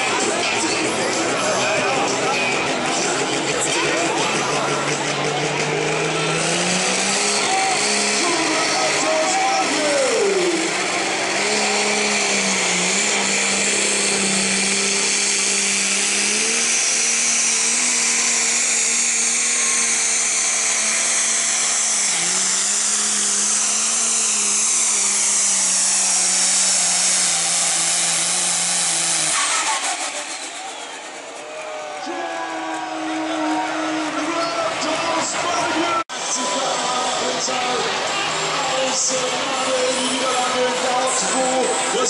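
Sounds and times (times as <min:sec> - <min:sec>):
tractor engine droning with whine: 0:00.0 - 0:42.0.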